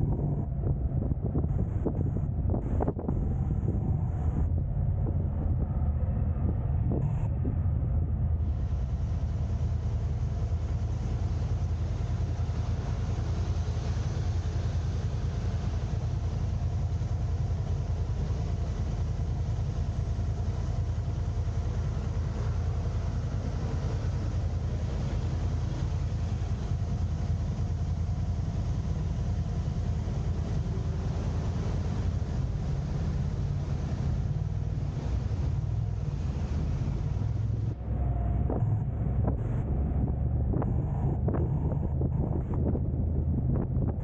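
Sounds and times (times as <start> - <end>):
car engine and road noise: 0.0 - 44.0.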